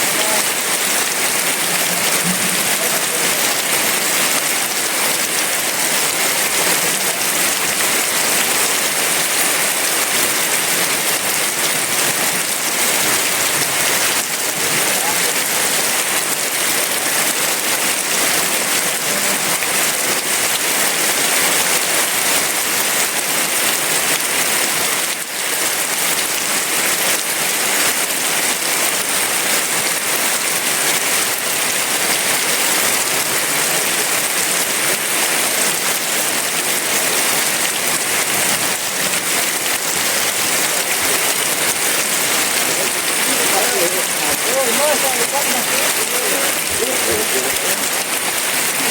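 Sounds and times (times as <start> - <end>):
heavy rain on leaves: 0.0 - 48.9.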